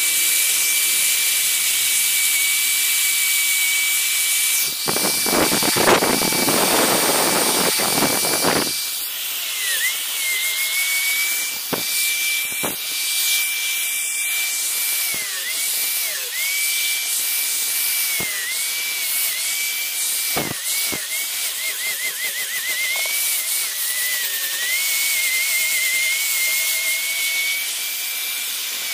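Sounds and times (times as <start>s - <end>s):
angle grinder sanding wood: 0.0s - 28.9s.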